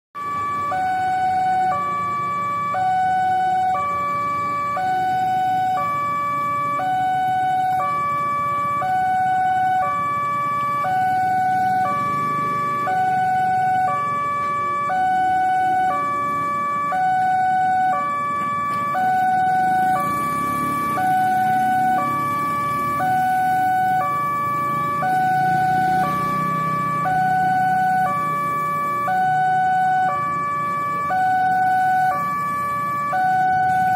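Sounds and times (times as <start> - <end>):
level crossing warning alarm: 0.2 - 33.9.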